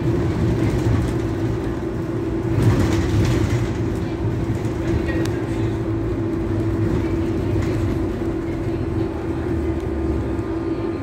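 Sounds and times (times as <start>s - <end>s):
bus engine and road rumble: 0.0s - 11.0s
constant hum: 0.0s - 11.0s.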